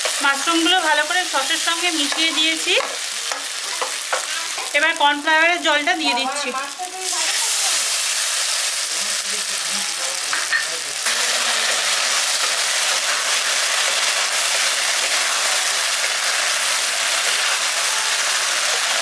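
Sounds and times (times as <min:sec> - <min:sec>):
sauce sizzling in a pan: 0:00.0 - 0:19.0.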